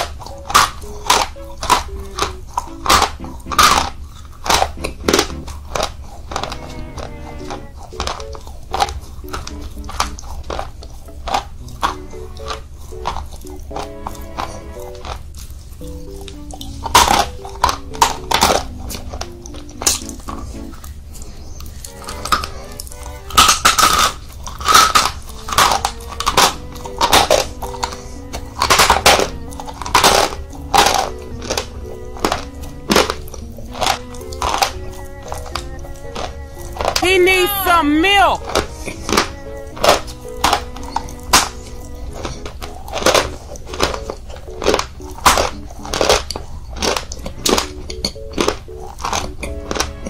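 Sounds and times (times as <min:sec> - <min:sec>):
gritty chewing crunches: 0:00.0 - 0:37.0, 0:38.4 - 0:50.0
quiet background music: 0:00.0 - 0:50.0.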